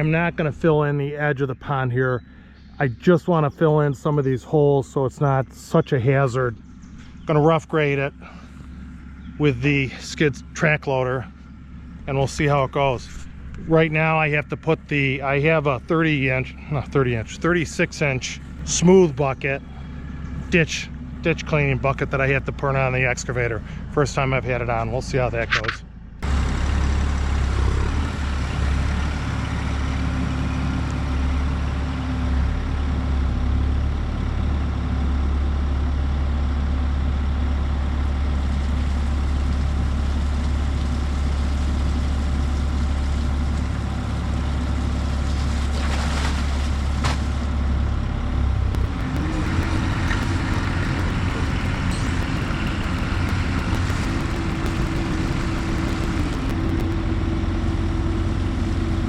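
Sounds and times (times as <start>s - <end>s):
excavator diesel engine running: 0.0s - 45.7s, 46.6s - 59.0s.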